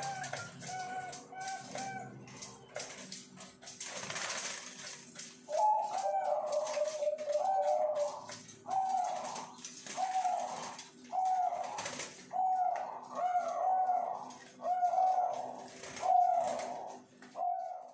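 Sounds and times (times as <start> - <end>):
doves cooing: 0.0 - 17.9.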